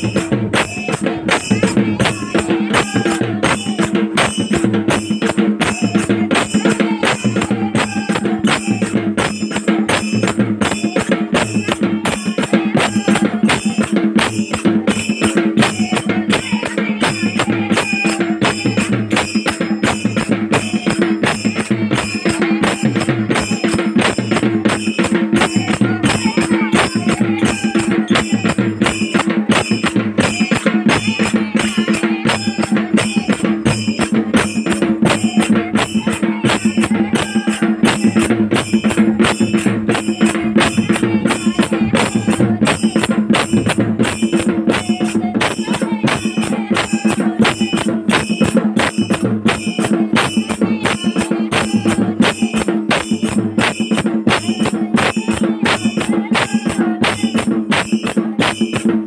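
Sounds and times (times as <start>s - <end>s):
drums and jingling percussion: 0.0s - 59.0s.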